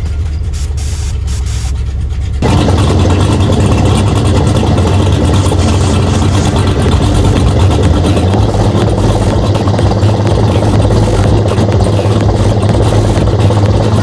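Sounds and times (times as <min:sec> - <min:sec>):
car engine running loudly: 0:00.0 - 0:14.0
dense rushing noise: 0:00.9 - 0:14.0.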